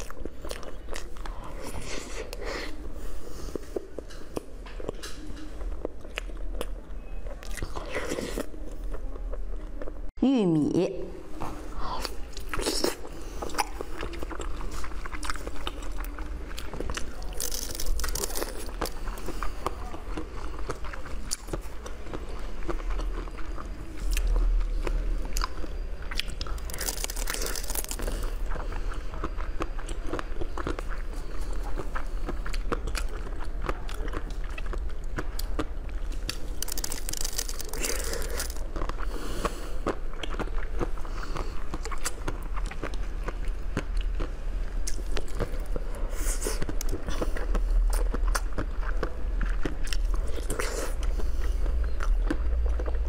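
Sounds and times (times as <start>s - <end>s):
biting and chewing jelly sweets: 0.0s - 10.1s, 11.4s - 53.0s.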